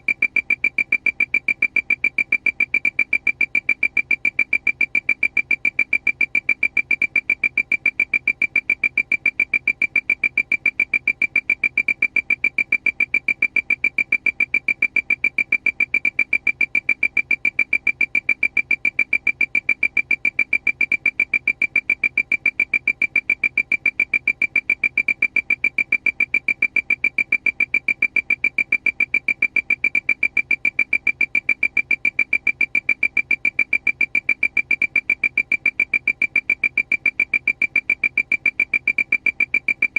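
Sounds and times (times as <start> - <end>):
rapid high electronic beeping: 0.0 - 39.9.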